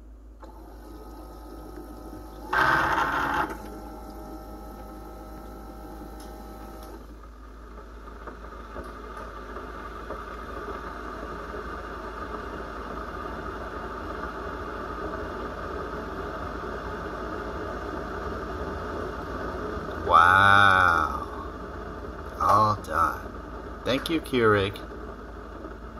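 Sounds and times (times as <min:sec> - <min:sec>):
coffee maker hum: 0:00.0 - 0:25.9
coffee maker hissing: 0:00.4 - 0:25.0.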